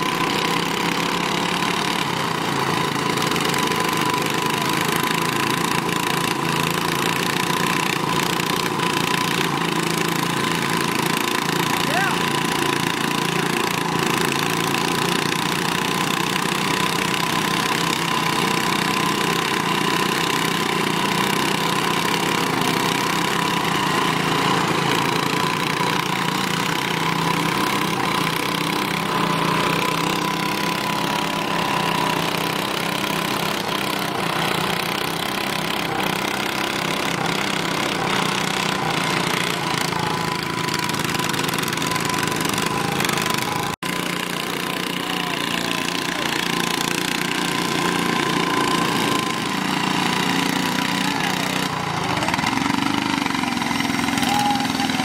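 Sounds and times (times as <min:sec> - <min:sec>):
tractor engines running under load: 0:00.0 - 0:55.0.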